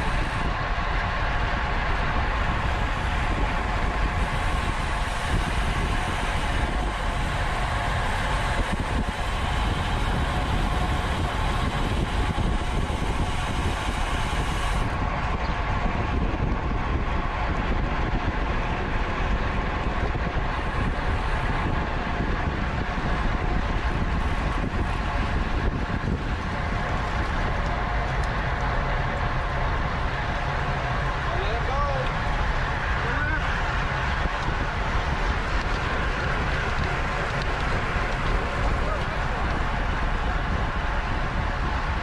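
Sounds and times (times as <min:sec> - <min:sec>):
tyre and road rumble: 0:00.0 - 0:42.0
wind buffeting microphone: 0:00.0 - 0:42.0.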